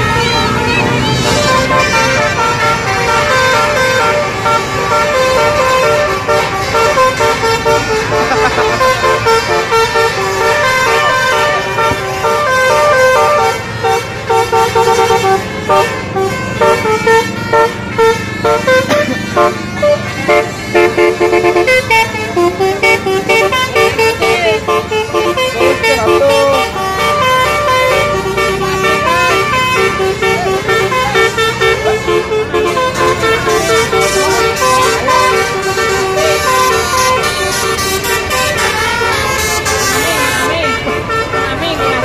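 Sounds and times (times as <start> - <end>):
bus horn playing a tune: 0.0 - 42.0.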